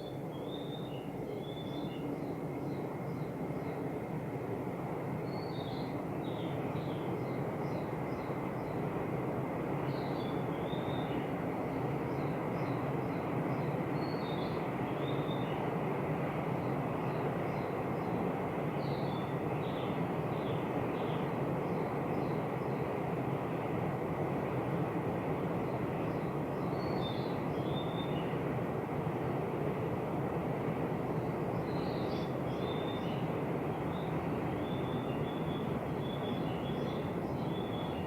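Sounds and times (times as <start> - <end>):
distant train rumbling: 0.0 - 38.0.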